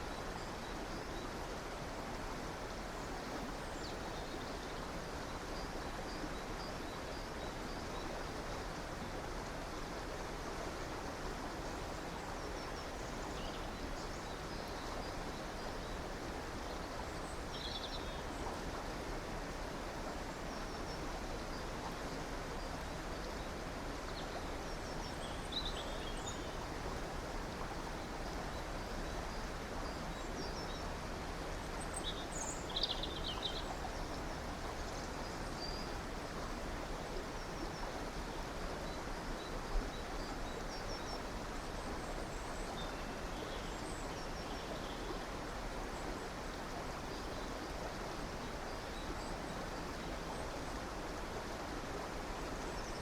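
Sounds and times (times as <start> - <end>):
river flowing: 0.0 - 53.0.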